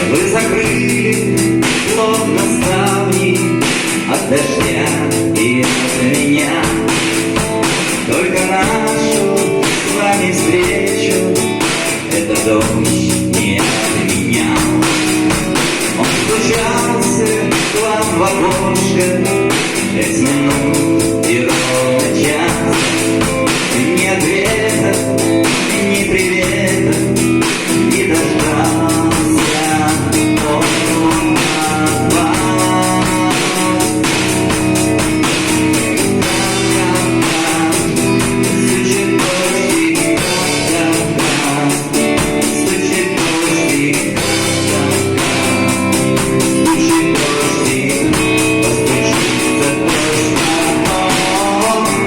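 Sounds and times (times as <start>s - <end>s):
guitar over steady beat: 0.0s - 52.0s.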